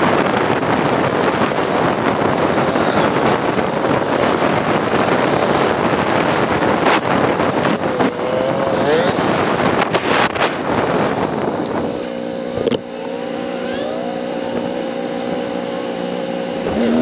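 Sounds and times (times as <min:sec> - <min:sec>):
motorcycle engine: 0:00.0 - 0:17.0
wind noise: 0:00.0 - 0:17.0.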